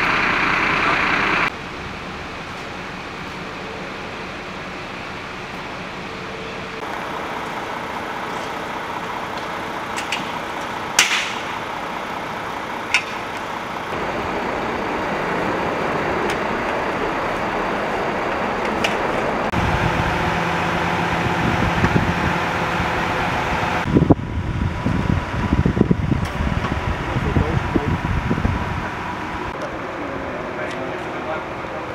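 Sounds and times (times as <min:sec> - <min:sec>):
vehicle engines idling: 0:00.0 - 0:31.9.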